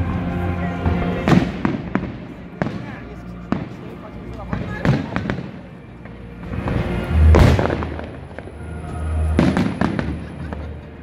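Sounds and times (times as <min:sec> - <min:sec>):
low rumble: 0:00.0 - 0:11.0
music playing: 0:00.0 - 0:11.0
fireworks exploding: 0:00.8 - 0:11.0.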